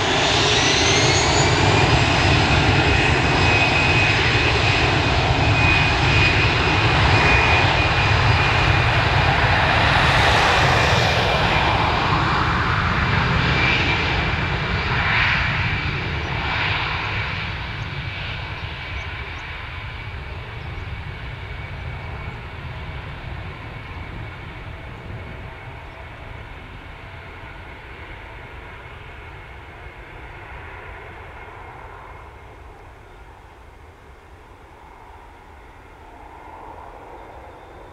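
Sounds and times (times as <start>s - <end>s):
jet engines whining at takeoff: 0.0s - 37.9s.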